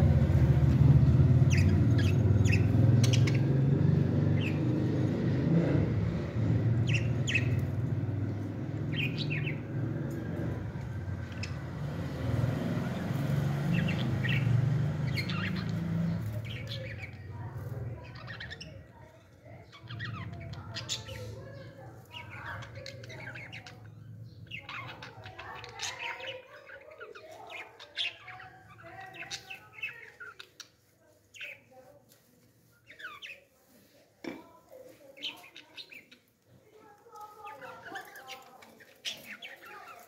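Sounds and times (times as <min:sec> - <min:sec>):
budgerigars chirping: 0:01.3 - 0:05.7, 0:06.6 - 0:18.9, 0:19.5 - 0:31.7, 0:32.8 - 0:33.5, 0:37.4 - 0:40.0.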